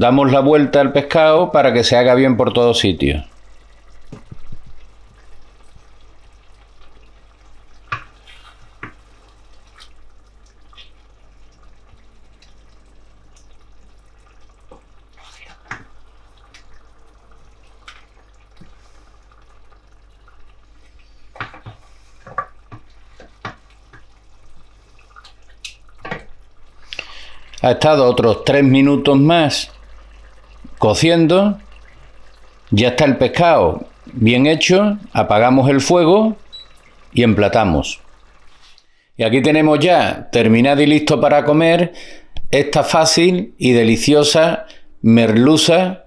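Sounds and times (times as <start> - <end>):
sauce bubbling in a pot: 0.2 - 45.1.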